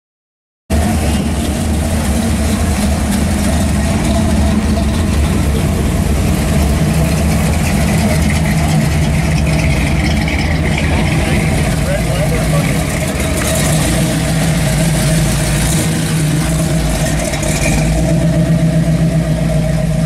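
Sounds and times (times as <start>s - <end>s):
car engines rumbling: 0.7s - 20.0s.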